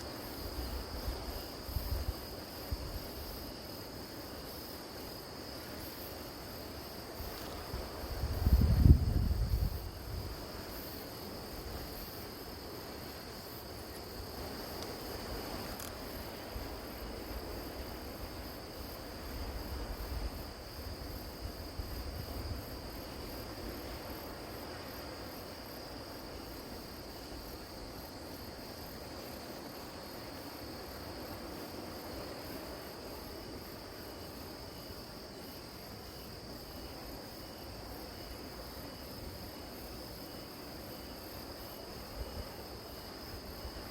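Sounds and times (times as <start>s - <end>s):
crickets steady trill: 0.0s - 43.9s
fast pulsing cricket chirp: 0.0s - 43.9s.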